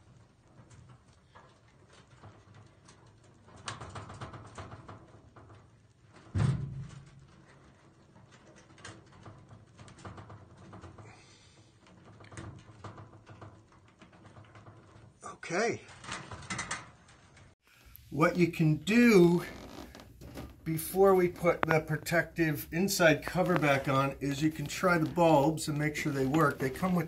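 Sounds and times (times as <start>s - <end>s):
wires and wire nuts clicking: 0.0s - 6.3s, 6.9s - 18.1s, 18.9s - 27.0s.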